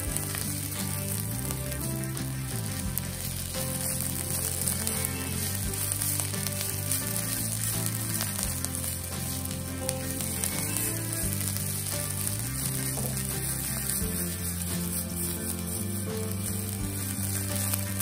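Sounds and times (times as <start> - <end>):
leaves sizzling in a pan: 0.0 - 18.0
soft background music: 0.0 - 18.0.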